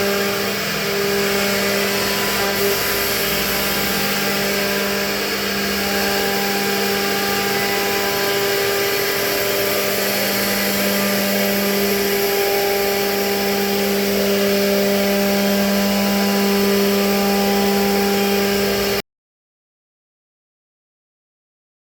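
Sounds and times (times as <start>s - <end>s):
cutting hiss: 0.0s - 18.9s
router spindle hum: 0.0s - 19.0s.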